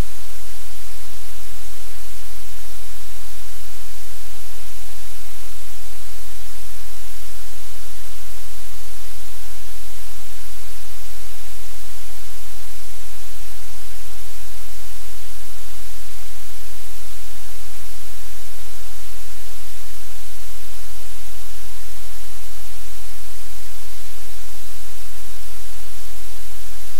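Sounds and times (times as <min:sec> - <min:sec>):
loud static hiss: 0:00.0 - 0:26.9
low electrical hum: 0:00.0 - 0:26.9.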